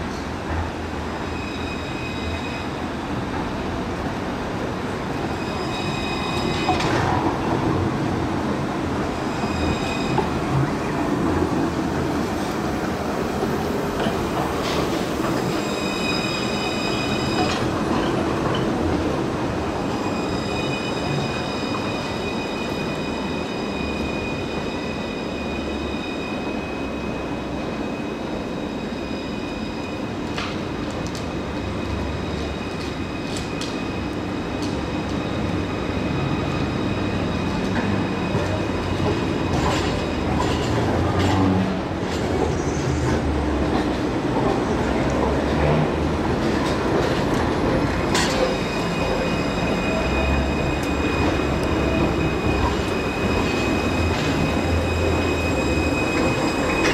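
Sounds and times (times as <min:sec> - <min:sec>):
tram running rumble: 0:00.0 - 0:56.9
tram wheels squealing: 0:00.0 - 0:56.9.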